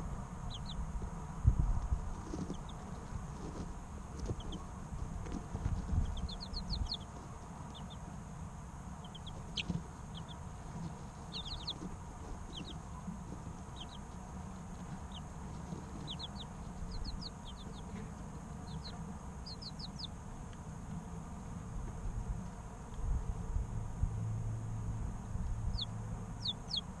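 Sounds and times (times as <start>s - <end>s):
chicks peeping: 0.0s - 21.0s, 25.1s - 27.0s
steady low rumble: 0.0s - 27.0s.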